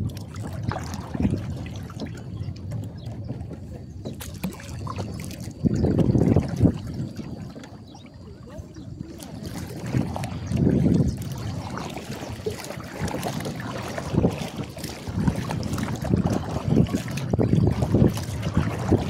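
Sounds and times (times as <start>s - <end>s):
paddle strokes splashing: 0.0s - 19.0s
wind rumbling on microphone: 0.0s - 19.0s.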